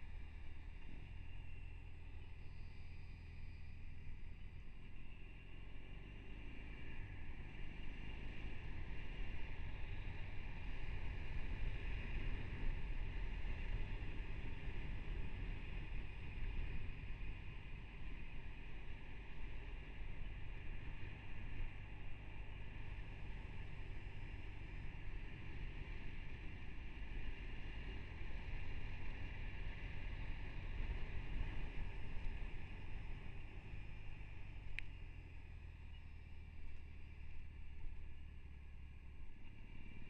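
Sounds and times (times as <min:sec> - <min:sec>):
motorcycle engine running: 0:00.0 - 0:40.0
road noise: 0:00.0 - 0:40.0.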